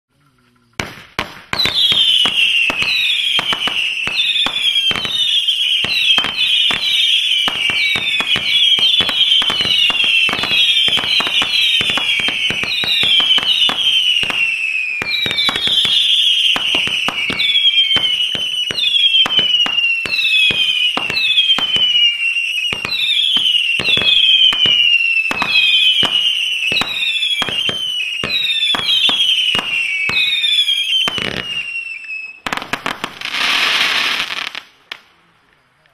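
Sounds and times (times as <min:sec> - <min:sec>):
falling firework whistles: 0:00.2 - 0:35.9
firework launch cracks: 0:00.7 - 0:31.8.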